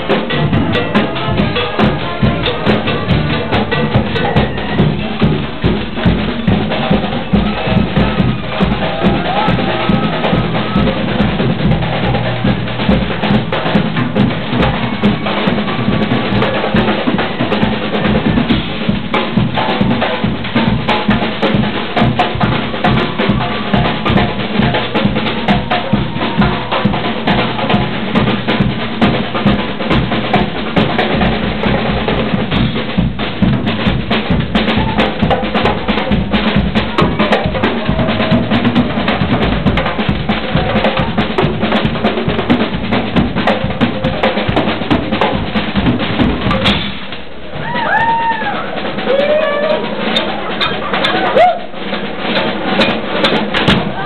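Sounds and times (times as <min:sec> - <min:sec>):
bass drums: 0:00.0 - 0:54.0
snare drums: 0:00.0 - 0:54.0.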